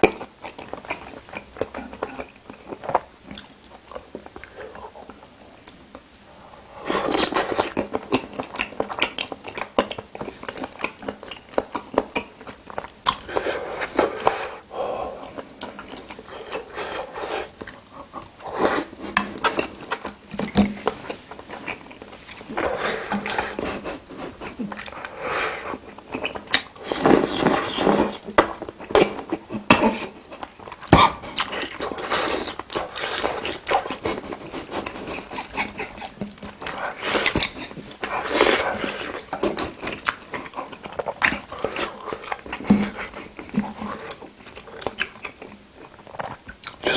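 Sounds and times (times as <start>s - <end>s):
wet chewing smacks and clicks: 0.0s - 46.9s.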